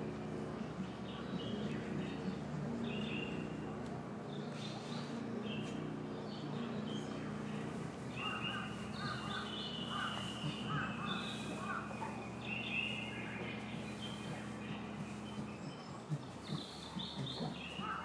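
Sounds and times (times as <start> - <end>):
birds calling: 0.0 - 18.0
steady low hum: 0.0 - 18.0.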